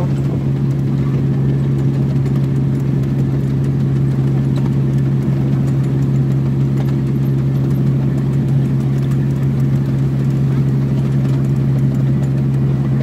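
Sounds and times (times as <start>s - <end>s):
miniature locomotive engine running: 0.0s - 13.0s.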